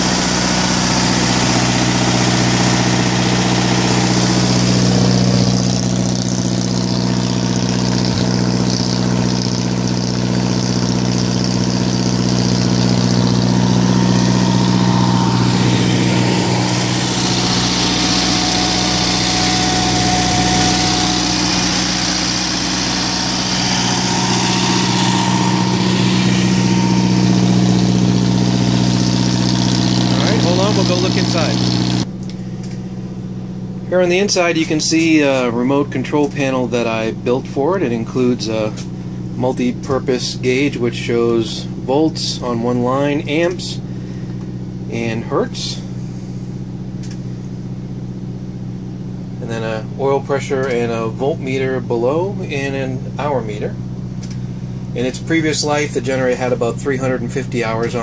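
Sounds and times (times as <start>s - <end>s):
generator engine humming: 0.0s - 58.0s.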